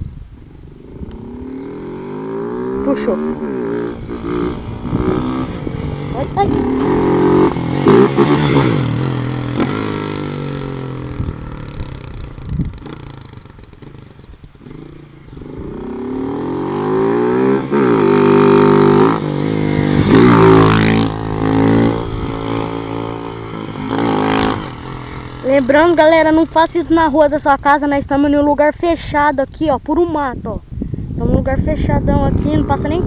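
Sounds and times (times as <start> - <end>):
motorcycle engine revving: 0.4 - 28.2.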